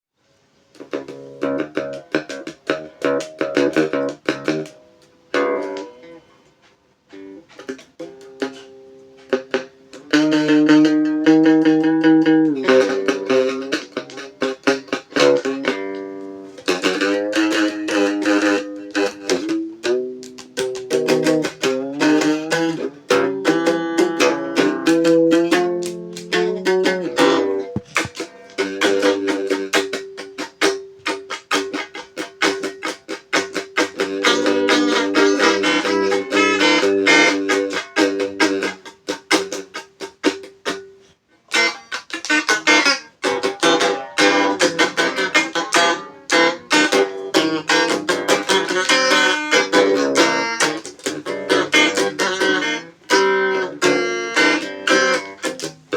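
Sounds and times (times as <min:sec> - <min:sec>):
instrumental guitar picking: 0:00.6 - 0:55.9.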